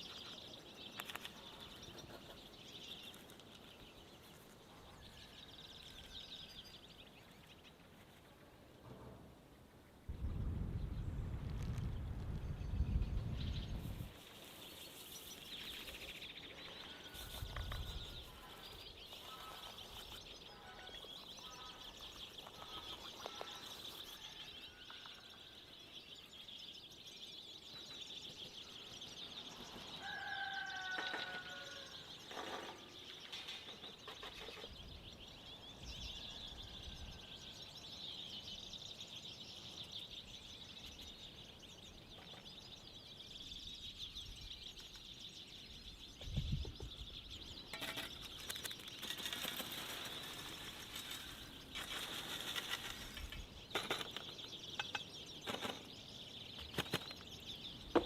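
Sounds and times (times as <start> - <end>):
birds chirping: 0.0 - 10.0, 10.7 - 58.0.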